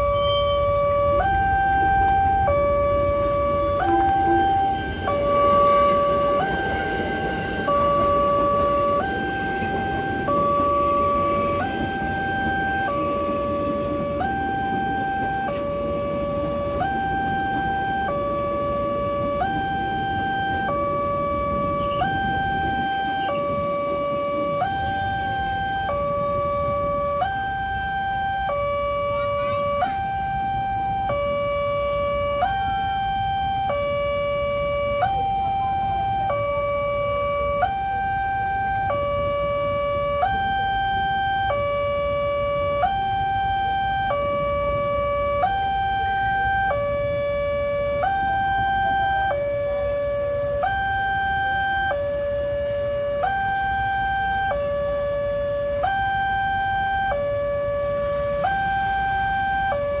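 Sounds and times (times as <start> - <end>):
level crossing two-tone alarm: 0.0 - 60.0.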